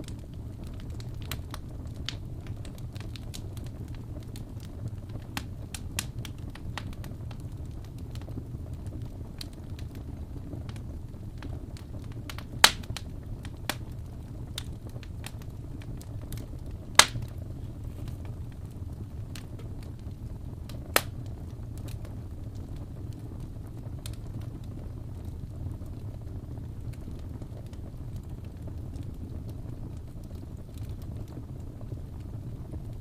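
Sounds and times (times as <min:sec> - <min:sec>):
loud fire pops: 0:00.0 - 0:33.0
low steady rumble: 0:00.0 - 0:33.0
wood fire crackling: 0:00.0 - 0:33.0.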